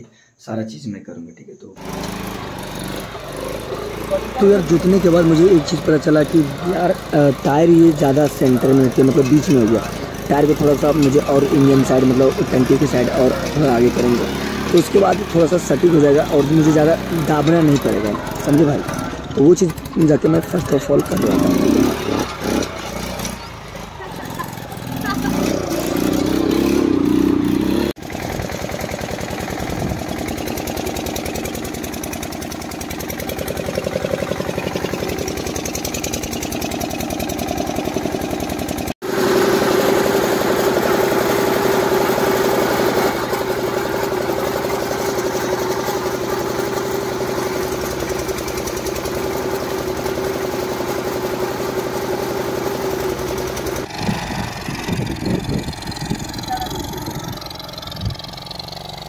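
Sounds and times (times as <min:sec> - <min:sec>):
small engine running: 0:01.8 - 0:59.0.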